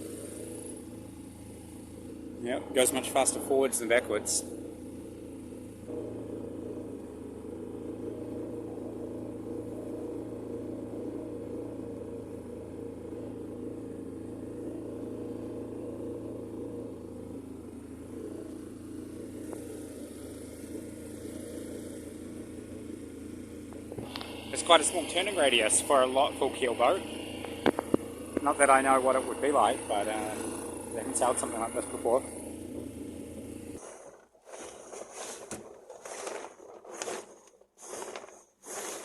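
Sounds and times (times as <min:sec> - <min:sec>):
boat engine running steadily: 0:00.0 - 0:35.7.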